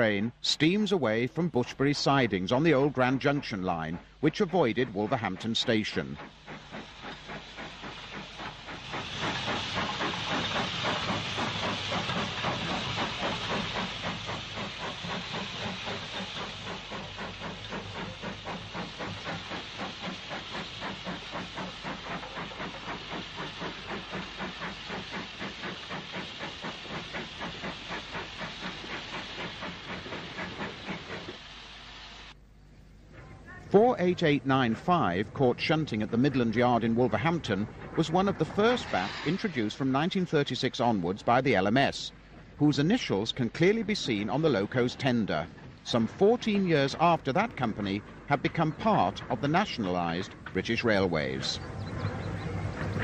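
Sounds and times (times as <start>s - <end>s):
steam locomotive exhaust beats: 0.0s - 53.0s
steam hissing: 0.6s - 32.4s, 33.8s - 53.0s.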